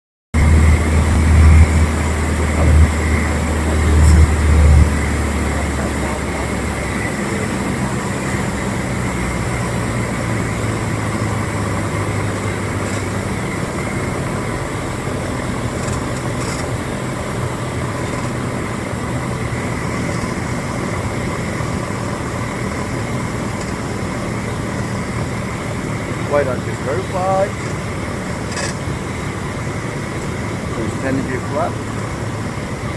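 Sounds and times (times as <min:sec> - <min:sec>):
airplane engine and propeller droning: 0:00.4 - 0:32.9
low buffeting: 0:00.4 - 0:32.9.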